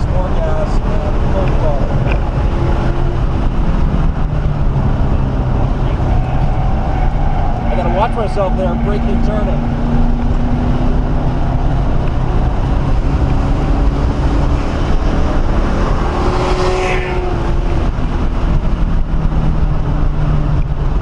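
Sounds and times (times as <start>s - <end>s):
car engine running hard: 0.0s - 21.0s
road and wind noise: 0.0s - 21.0s.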